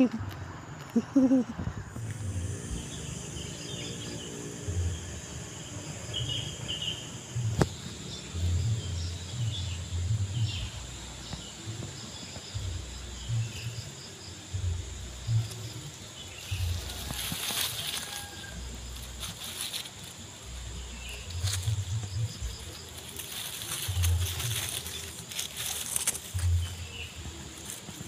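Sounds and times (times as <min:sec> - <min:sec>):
insect buzz: 0:00.0 - 0:28.0.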